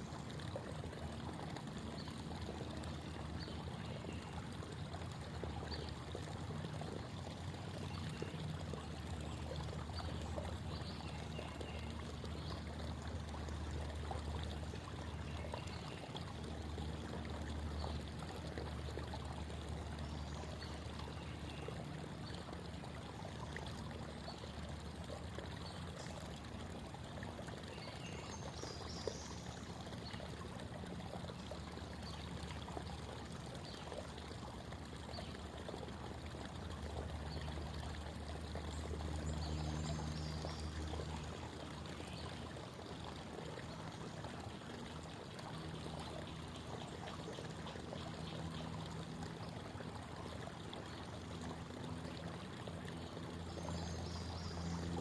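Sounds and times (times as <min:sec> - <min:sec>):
creek water babbling over stones: 0:00.0 - 0:55.0.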